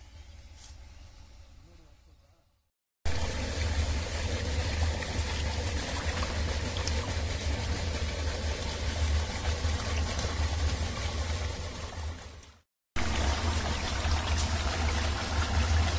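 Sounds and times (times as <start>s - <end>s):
shallow water rushing: 3.1s - 15.9s.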